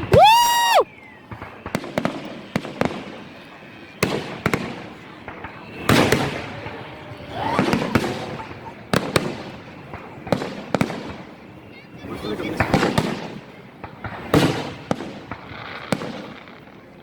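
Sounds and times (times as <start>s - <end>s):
crackling firework bursts: 0.0s - 17.0s
fireworks bangs: 0.0s - 17.0s.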